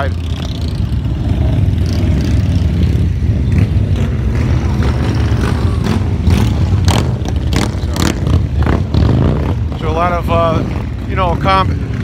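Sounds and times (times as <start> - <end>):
motorcycle engines rumbling past: 0.0 - 12.0.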